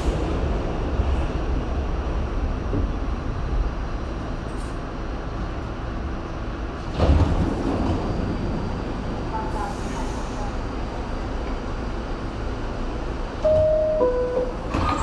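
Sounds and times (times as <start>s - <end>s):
subway car clatter: 0.0s - 15.0s
subway car wheels rumbling on rail: 0.0s - 15.0s.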